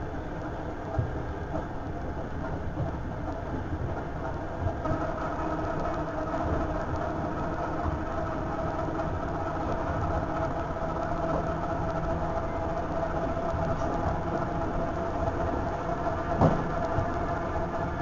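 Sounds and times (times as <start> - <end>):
constant hum: 0.0 - 18.0
train running rumble: 0.0 - 18.0.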